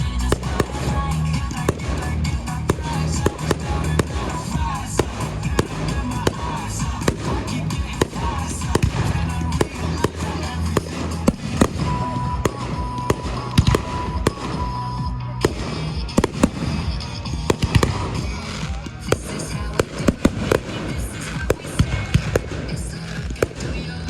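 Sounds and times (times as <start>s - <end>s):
fireworks bangs and crackles: 0.0s - 24.0s
music over loudspeakers: 0.0s - 24.0s.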